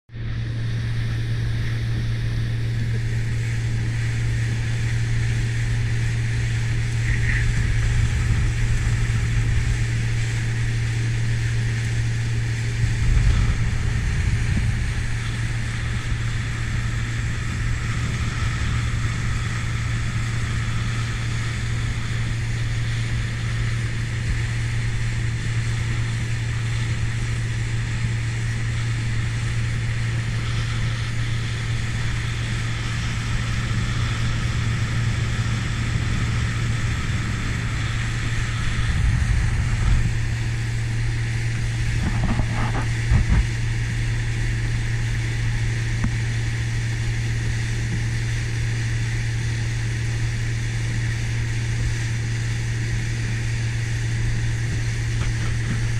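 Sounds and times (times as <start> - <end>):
outboard motor droning: 0.1 - 55.9
wind and water rushing: 0.4 - 55.9.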